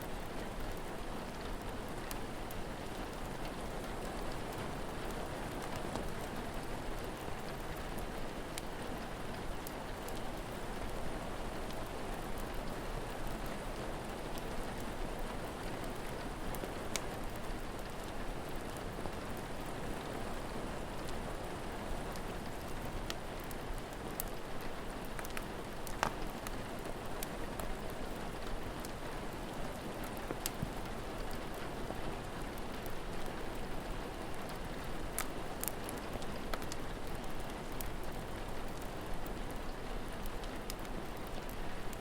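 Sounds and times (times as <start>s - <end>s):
steady rainfall: 0.0s - 42.0s
wood fire crackling: 0.0s - 42.0s.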